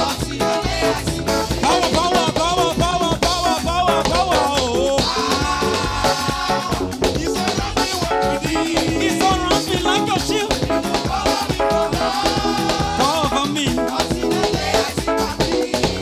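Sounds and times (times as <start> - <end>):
live band playing gospel music: 0.0 - 16.0.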